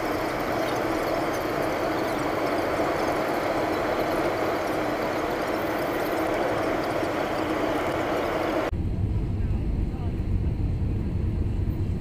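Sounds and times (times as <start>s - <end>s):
airliner engine drone in cabin: 0.0s - 12.0s.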